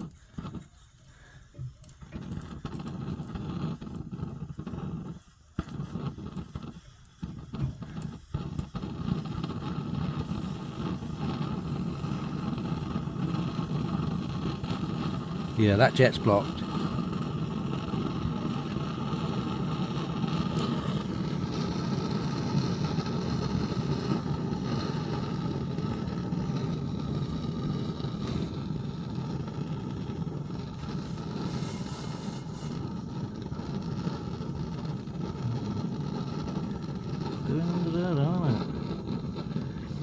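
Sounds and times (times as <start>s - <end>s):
petrol stove burning rush: 0.0s - 40.0s.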